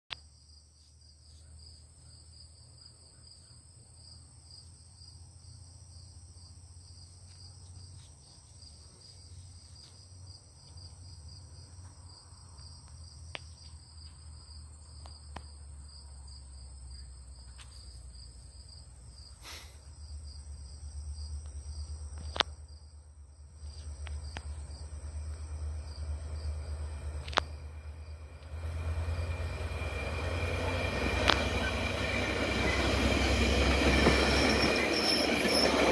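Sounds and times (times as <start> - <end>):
crickets trilling: 0.1 - 35.9
train rumble: 5.2 - 35.9.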